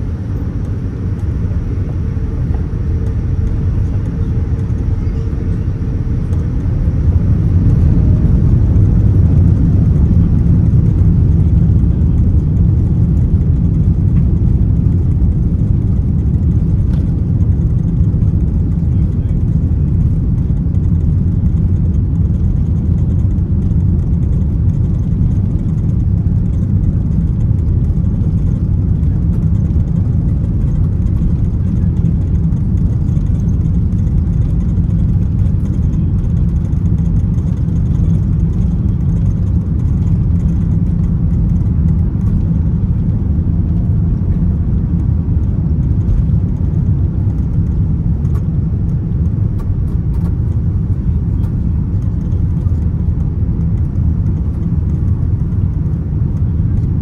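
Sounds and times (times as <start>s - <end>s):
jet engines rumbling: 0.0s - 57.0s
wheels rumbling on runway: 0.0s - 57.0s.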